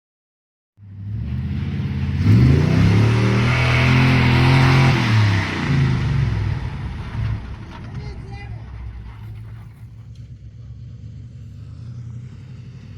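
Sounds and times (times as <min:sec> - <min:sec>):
truck engine revving: 0:01.0 - 0:08.0, 0:08.6 - 0:12.9.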